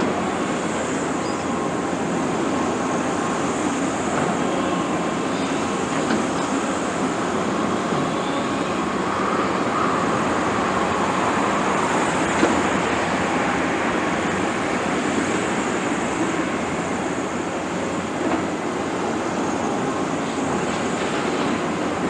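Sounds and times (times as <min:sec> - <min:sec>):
faint hydraulic whine: 0:00.0 - 0:21.6.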